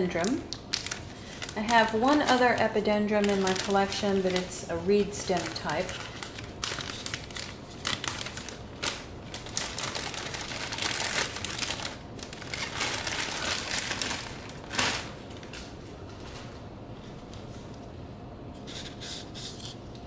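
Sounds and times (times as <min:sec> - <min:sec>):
plastic sleeve crinkling: 0:00.0 - 0:16.5.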